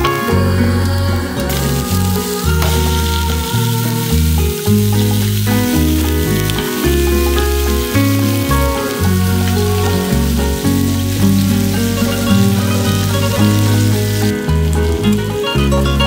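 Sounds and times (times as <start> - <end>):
background music with bass line: 0.0 - 16.0
fish frying in hot oil: 1.5 - 16.0.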